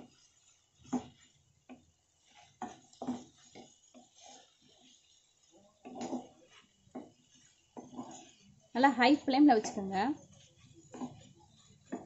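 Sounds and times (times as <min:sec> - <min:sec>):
spatula scraping metal pan: 0:00.0 - 0:12.0.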